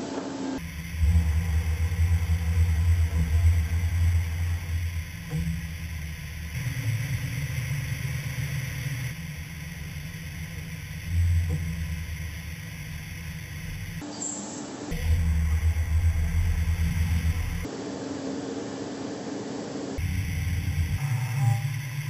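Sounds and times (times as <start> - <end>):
grinding machine running: 0.6 - 14.0, 14.9 - 17.7, 20.0 - 22.0.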